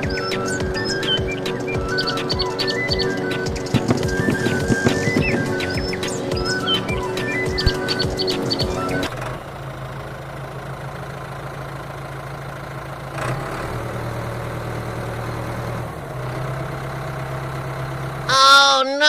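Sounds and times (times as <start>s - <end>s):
engine idling: 0.0s - 18.8s.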